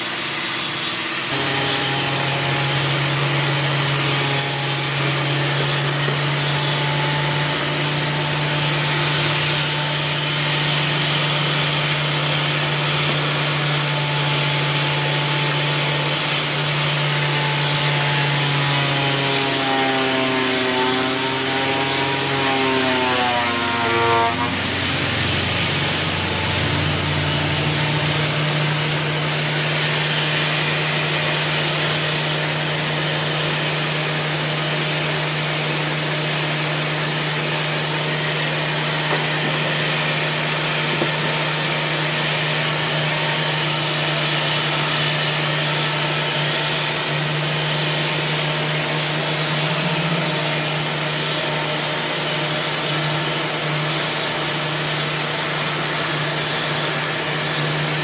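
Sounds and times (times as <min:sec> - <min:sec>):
power tool motor humming: 0:00.0 - 0:58.0.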